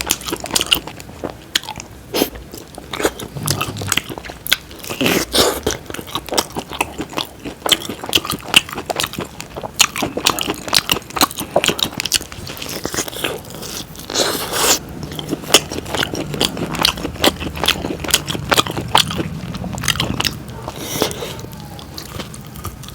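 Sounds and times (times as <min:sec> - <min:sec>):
person chewing and crunching: 0:00.0 - 0:22.9.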